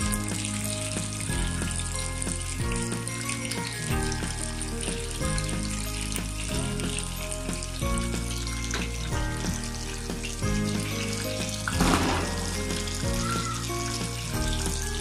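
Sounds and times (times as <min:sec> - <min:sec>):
background music: 0:00.0 - 0:15.0
fish sizzling in hot oil: 0:00.0 - 0:15.0.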